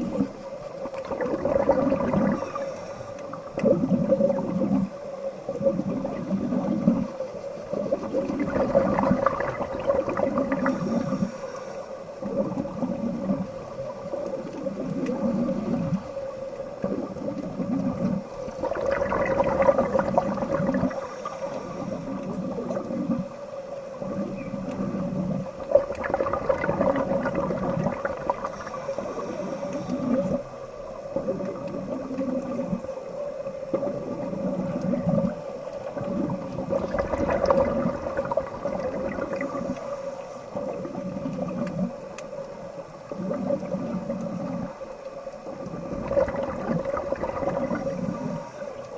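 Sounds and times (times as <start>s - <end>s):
crackling: 0.0s - 48.9s
underwater bubbling and gurgling: 0.0s - 48.9s.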